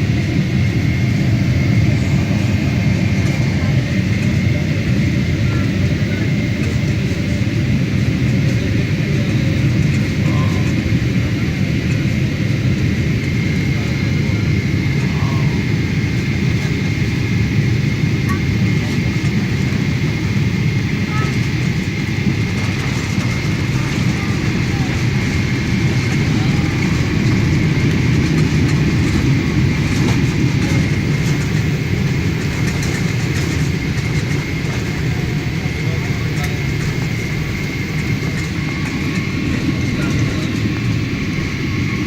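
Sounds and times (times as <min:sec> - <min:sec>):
jet airliner rumble: 0:00.0 - 0:42.0.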